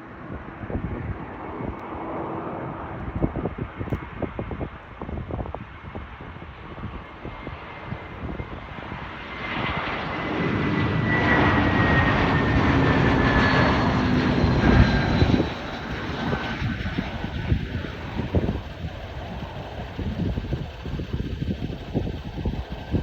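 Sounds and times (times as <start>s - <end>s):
high jet engine whine: 0.0s - 23.0s
jet airliner passing overhead: 0.0s - 23.0s.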